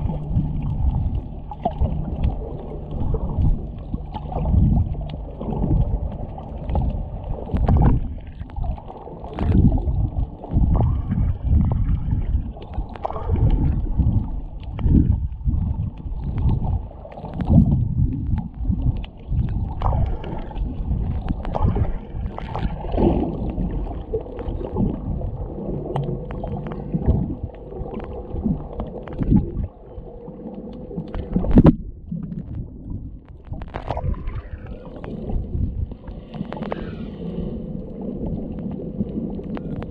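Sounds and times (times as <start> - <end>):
faint steady hum: 0.0 - 39.9
water surging and gurgling underwater: 0.0 - 39.9.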